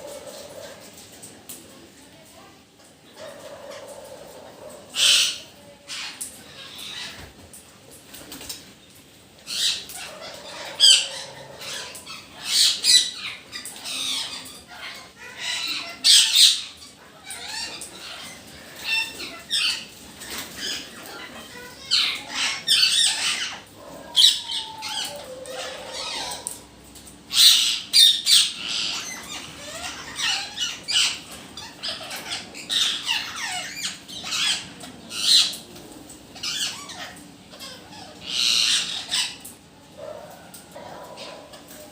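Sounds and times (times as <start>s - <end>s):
parrots squawking: 0.0s - 0.9s, 3.2s - 7.3s, 9.5s - 41.9s.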